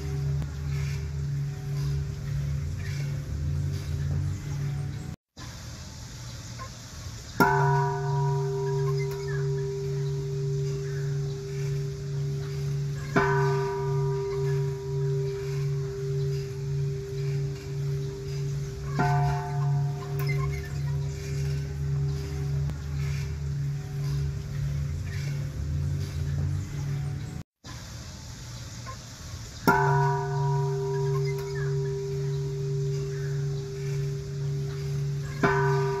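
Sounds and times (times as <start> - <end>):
large bell struck with wooden log: 0.0 - 5.2, 7.4 - 27.4, 29.6 - 36.0.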